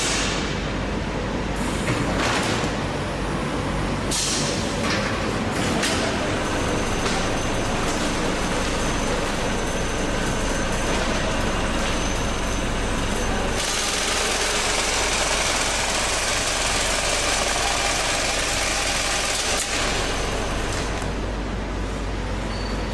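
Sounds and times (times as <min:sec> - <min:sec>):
bagging machine running: 0:01.6 - 0:22.9.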